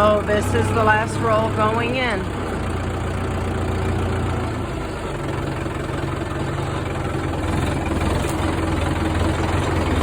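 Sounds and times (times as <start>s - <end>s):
tractor engine running at low speed: 0.0s - 10.0s.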